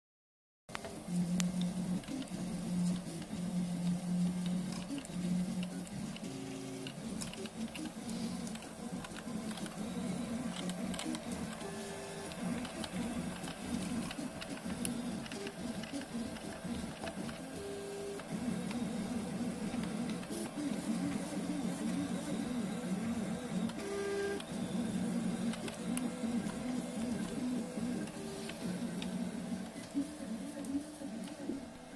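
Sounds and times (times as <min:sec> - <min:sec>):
stepper motors humming: 0:00.8 - 0:31.8.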